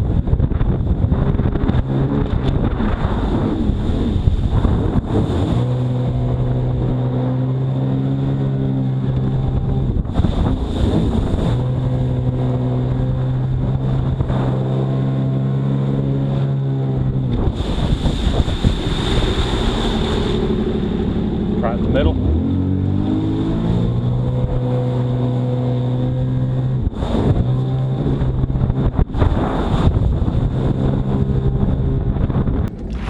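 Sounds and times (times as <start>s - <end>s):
jet ski engine running: 0.0s - 33.0s
wind noise: 0.0s - 33.0s
rushing water: 1.3s - 32.2s.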